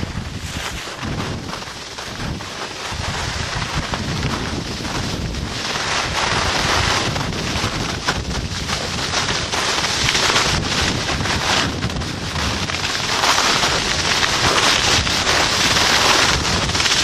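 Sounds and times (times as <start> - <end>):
skis scraping snow: 0.0 - 17.0
wind buffeting microphone: 0.0 - 17.0.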